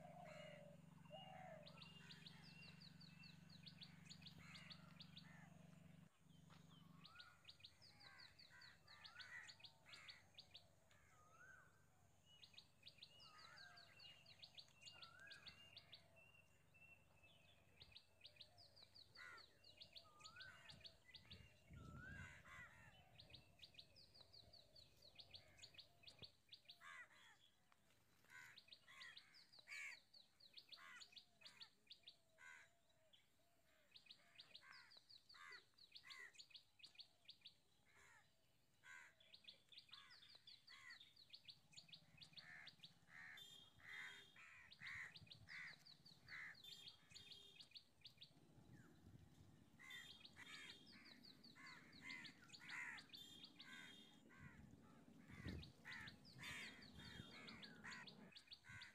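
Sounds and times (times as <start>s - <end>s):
faint songbirds singing: 0.0s - 58.9s.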